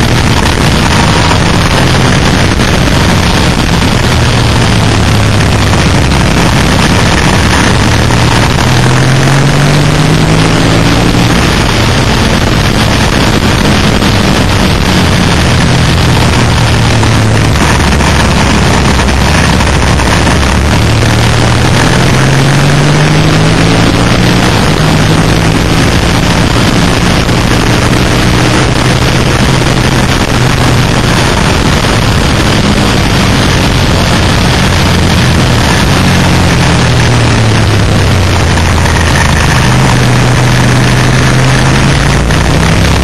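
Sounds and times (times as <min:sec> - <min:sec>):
motorcycle engine accelerating: 0:00.0 - 0:43.0
wind rushing on microphone: 0:00.0 - 0:43.0.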